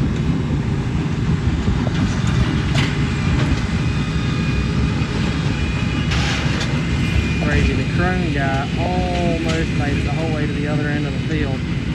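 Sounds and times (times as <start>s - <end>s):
tractors pulling hay balers: 0.0s - 11.9s.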